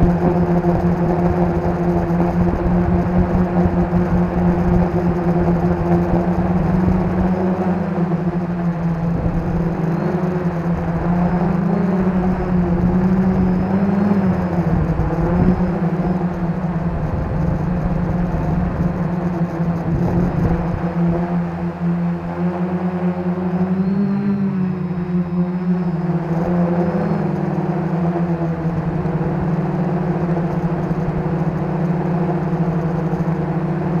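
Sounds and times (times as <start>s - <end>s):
drone propellers whirring: 0.0s - 34.0s.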